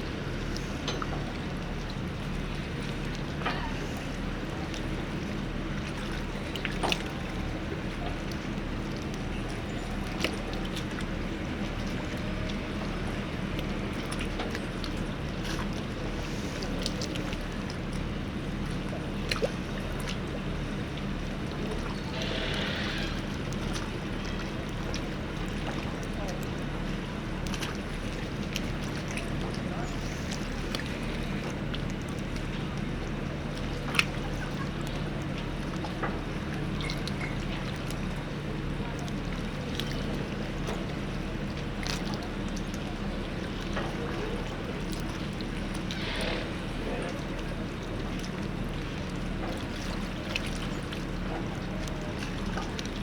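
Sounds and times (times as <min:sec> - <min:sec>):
boat engine humming: 0:00.0 - 0:53.0
water wash: 0:00.0 - 0:53.0.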